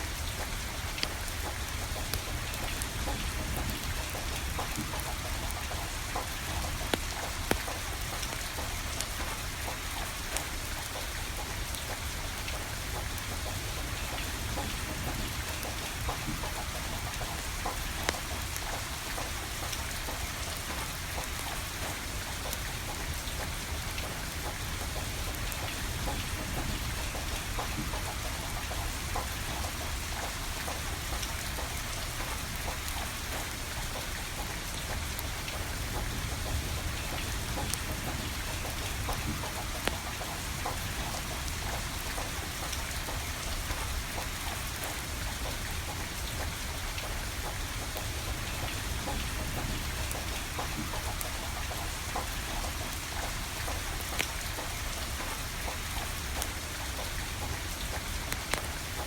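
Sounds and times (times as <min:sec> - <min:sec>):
wood fire crackling: 0:00.0 - 0:27.8, 0:28.4 - 0:59.0
steady rain falling: 0:00.0 - 0:59.0.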